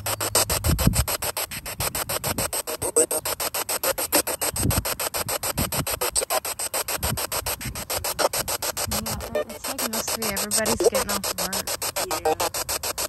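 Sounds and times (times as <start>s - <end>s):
pulsing radio static: 0.0s - 13.0s
snatches of radio sound: 0.0s - 13.0s.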